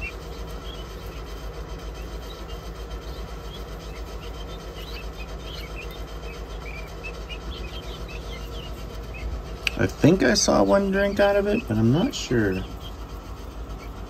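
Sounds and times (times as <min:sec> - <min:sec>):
guinea fowl keets peeping: 0:00.0 - 0:14.0
steady low hum: 0:00.0 - 0:14.0.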